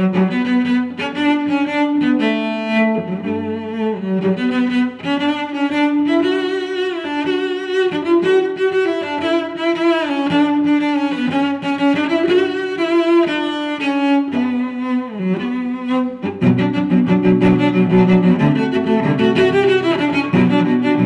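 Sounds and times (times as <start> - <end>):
slow melody on bowed strings: 0.0 - 21.0.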